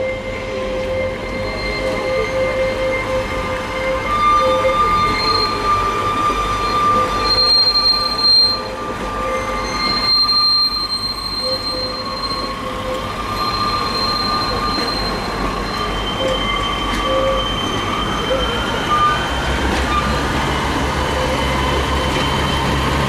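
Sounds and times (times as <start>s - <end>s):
low train rumble: 0.0s - 23.0s
train wheels squealing: 0.0s - 23.0s.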